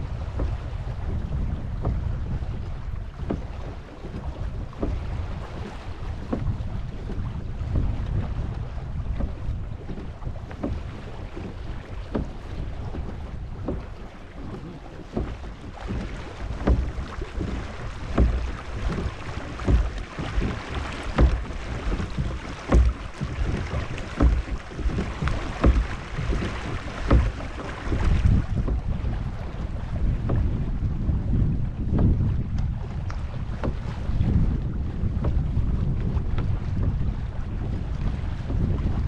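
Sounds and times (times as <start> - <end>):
water splashing against hull: 0.0 - 39.0
wind rumbling on microphone: 0.0 - 39.0.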